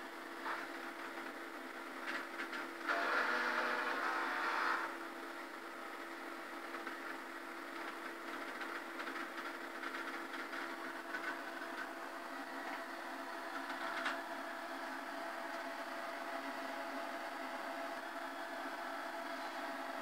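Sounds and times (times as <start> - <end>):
computer fan hum and whine: 0.0 - 20.0.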